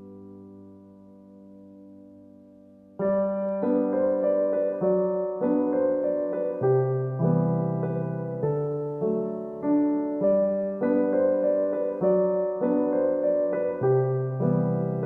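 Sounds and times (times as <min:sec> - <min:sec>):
electric piano melody: 0:00.0 - 0:15.0.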